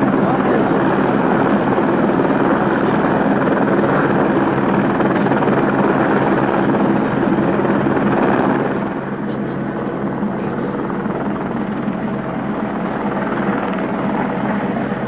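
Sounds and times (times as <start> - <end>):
aircraft engine rushing: 0.0 - 15.0.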